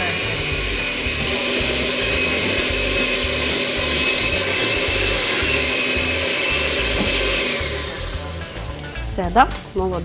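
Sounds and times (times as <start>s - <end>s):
electric hand mixer whirring: 0.0s - 9.0s.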